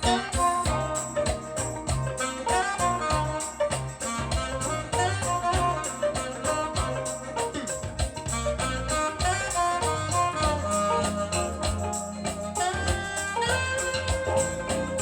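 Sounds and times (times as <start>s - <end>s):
music from a vinyl record: 0.0s - 15.0s.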